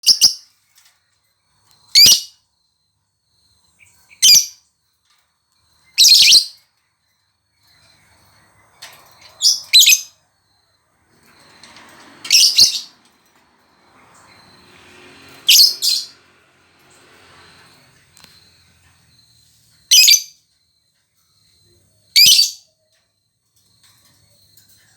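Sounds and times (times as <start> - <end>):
bird chirping: 0.0 - 0.6, 1.5 - 13.1, 13.9 - 24.9.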